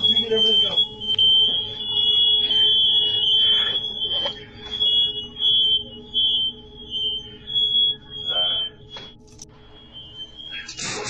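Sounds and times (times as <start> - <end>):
smoke alarm shrill tone: 0.0 - 11.0.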